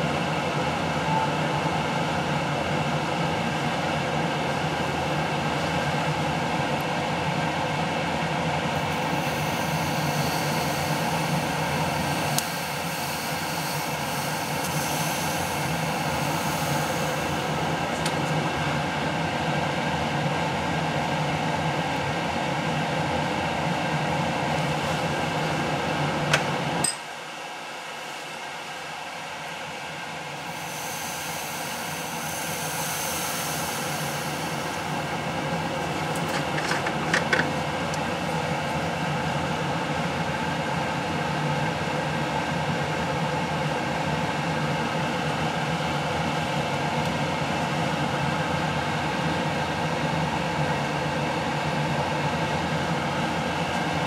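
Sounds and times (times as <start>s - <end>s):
machine hum and hiss: 0.0s - 54.0s.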